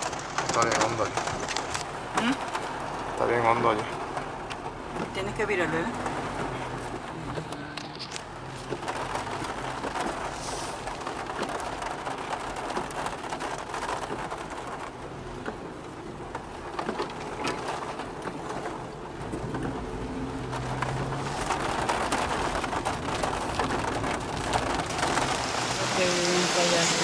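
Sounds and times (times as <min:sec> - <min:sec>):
heavy rain on car roof: 0:00.0 - 0:27.0
low engine hum: 0:00.0 - 0:27.0.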